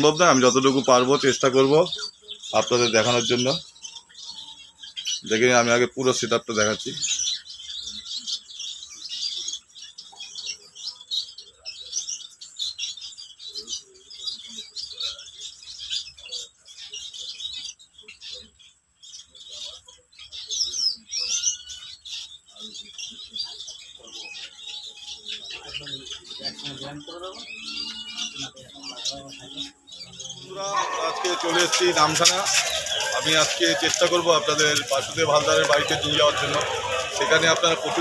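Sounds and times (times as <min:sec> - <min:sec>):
finches chirping: 0:00.0 - 0:38.0.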